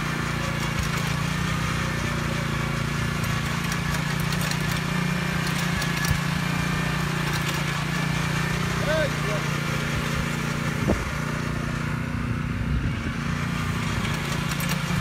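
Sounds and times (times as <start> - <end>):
tiller engine running: 0.0 - 15.0.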